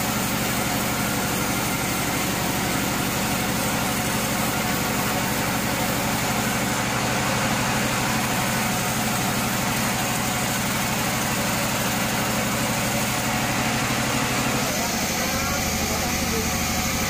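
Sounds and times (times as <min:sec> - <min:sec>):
sawmill motor hum: 0:00.0 - 0:17.0.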